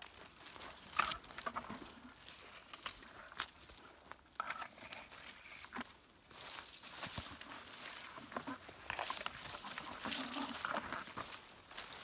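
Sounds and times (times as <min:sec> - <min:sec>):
branches and leaves rustling: 0:00.0 - 0:12.0
footsteps through undergrowth: 0:00.0 - 0:12.0.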